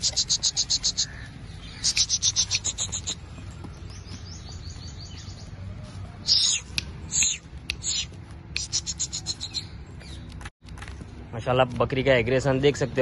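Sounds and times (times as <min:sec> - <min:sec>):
small birds chirping: 0:00.0 - 0:10.5, 0:11.9 - 0:13.0.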